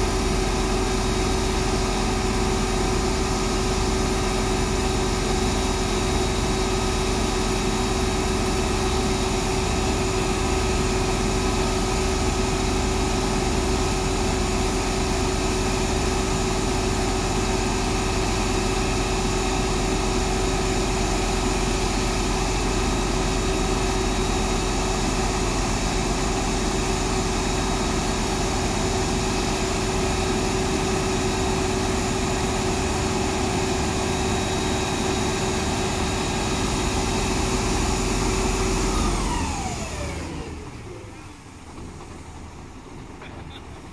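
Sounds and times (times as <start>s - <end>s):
diesel engine humming and whining: 0.0s - 43.9s.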